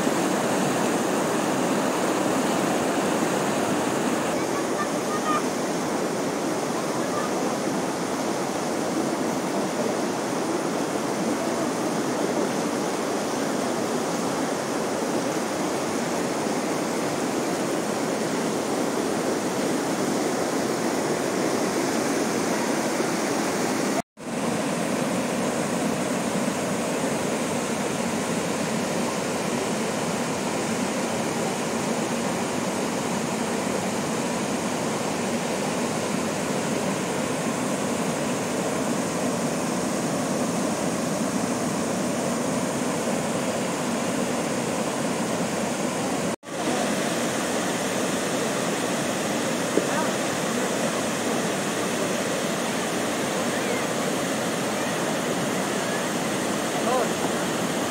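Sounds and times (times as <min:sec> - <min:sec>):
river water rushing over boulders: 0:00.0 - 0:57.9.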